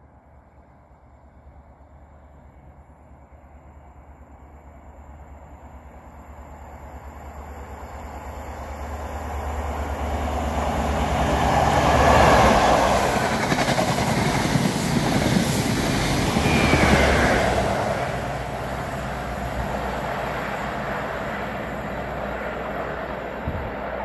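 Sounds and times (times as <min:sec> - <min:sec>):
train passing through station: 0:00.0 - 0:24.0.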